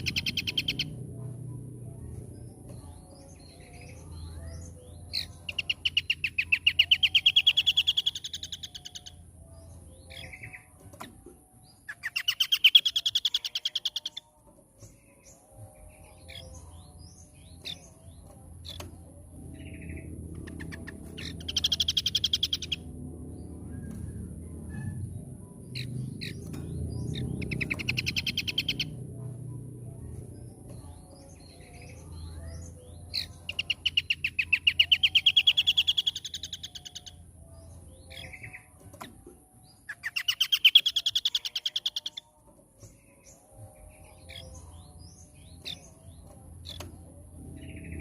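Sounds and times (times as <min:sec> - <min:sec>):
bird singing fast trills: 0:00.0 - 0:10.7, 0:11.7 - 0:23.7, 0:24.6 - 0:38.8, 0:39.6 - 0:48.0.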